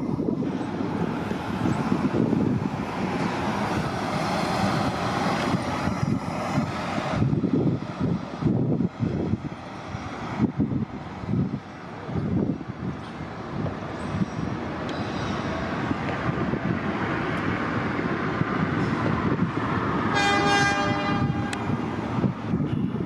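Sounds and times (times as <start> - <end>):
bus passing by: 0.0 - 23.0
low rumbling gusts: 0.0 - 23.0.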